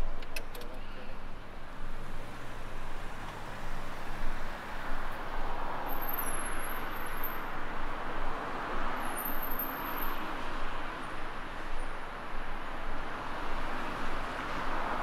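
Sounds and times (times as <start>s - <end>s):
urban ambience: 0.0s - 15.0s.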